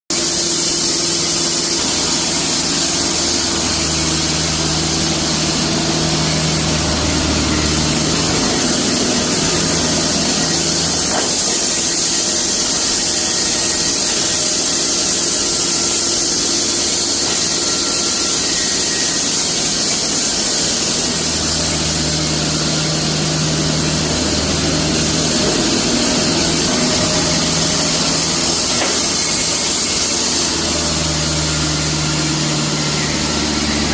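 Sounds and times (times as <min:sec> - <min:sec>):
band sawmill high hiss: 0:00.1 - 0:33.9
engine drone: 0:00.1 - 0:33.9.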